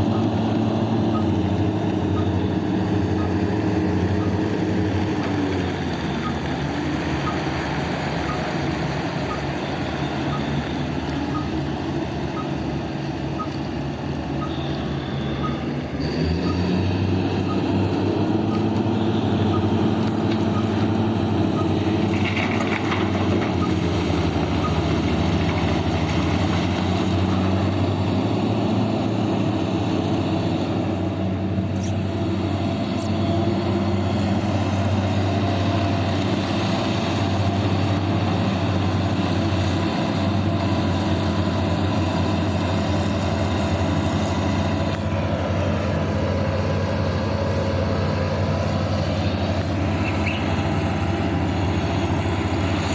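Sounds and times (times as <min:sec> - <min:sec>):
heavy diesel engine drone: 0:00.0 - 0:52.9.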